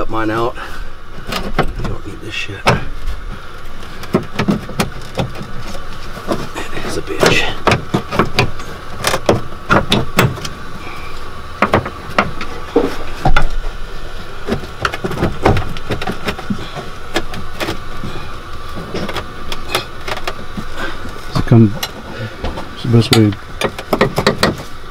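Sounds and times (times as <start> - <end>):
steady faint hum: 0.0 - 24.9.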